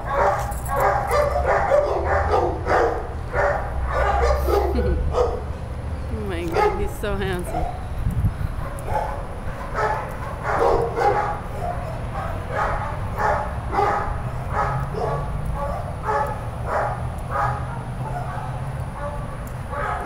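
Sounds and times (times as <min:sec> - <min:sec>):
dog barking: 0:00.0 - 0:05.5, 0:06.5 - 0:06.9, 0:07.5 - 0:07.8, 0:08.6 - 0:20.0.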